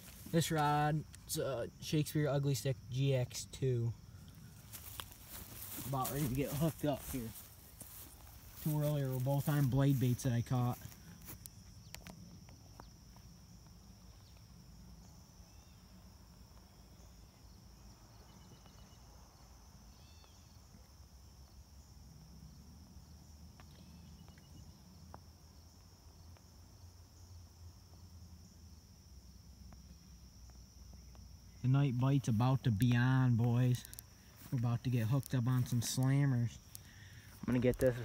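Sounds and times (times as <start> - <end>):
night insects trilling: 0.0 - 38.0.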